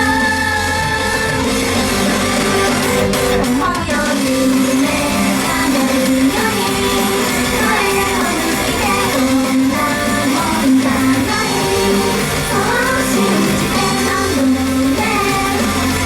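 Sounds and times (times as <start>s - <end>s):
girls singing: 0.0s - 16.0s
pop-rock backing track: 0.0s - 16.0s.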